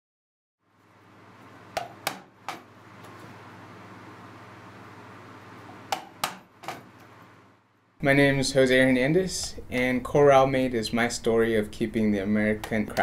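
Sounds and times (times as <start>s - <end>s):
steady low hum: 0.7s - 13.0s.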